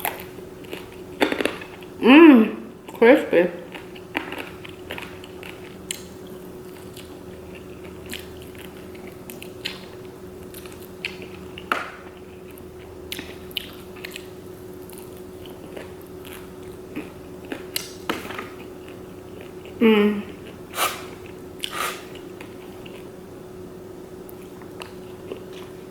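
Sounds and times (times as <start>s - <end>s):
person chewing crunchy food: 0.0s - 2.0s, 3.6s - 23.2s, 24.2s - 25.9s
faint steady hum: 0.0s - 25.9s.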